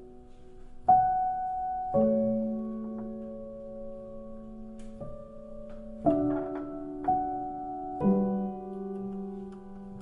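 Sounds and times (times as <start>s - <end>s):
slow soft background music: 0.0s - 10.0s.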